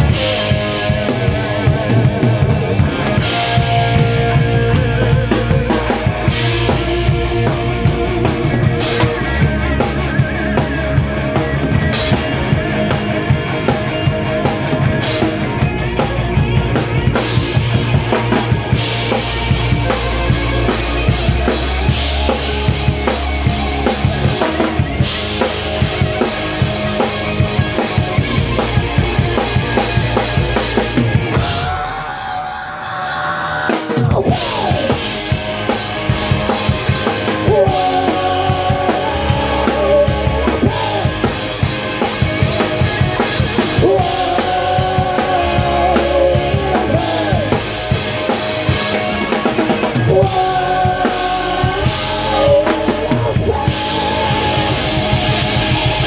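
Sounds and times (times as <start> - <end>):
bass drum: 0.0 - 31.8, 34.0 - 56.0
live rock band: 0.0 - 56.0.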